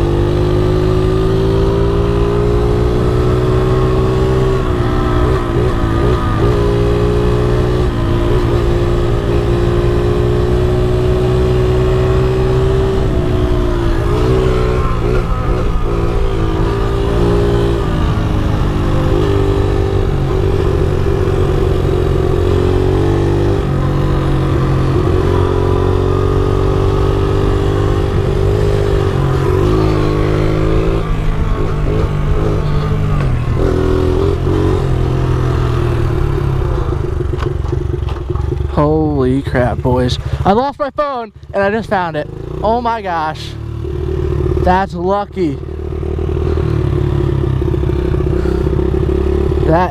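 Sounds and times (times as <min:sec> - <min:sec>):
motorbike engine running: 0:00.0 - 0:49.9.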